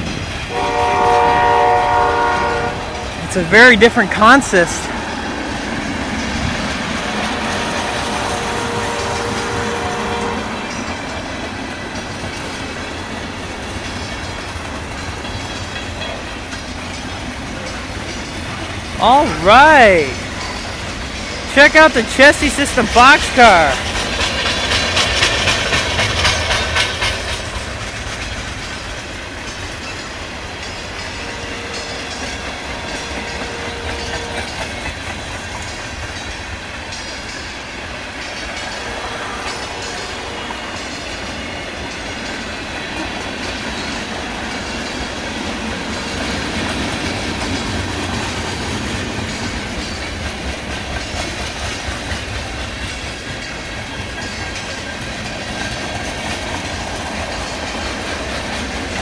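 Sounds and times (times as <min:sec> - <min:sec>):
train rumble: 0:00.0 - 0:59.0
train wheels clacking: 0:00.0 - 0:59.0.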